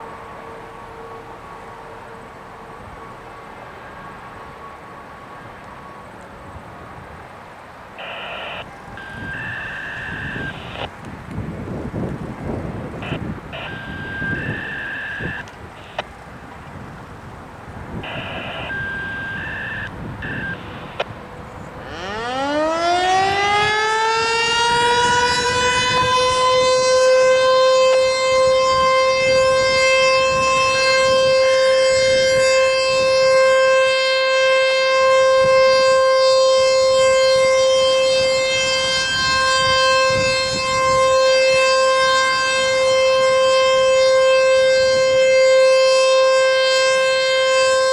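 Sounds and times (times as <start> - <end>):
outdoor warning siren: 0.0 - 47.9
traffic noise: 0.0 - 47.9.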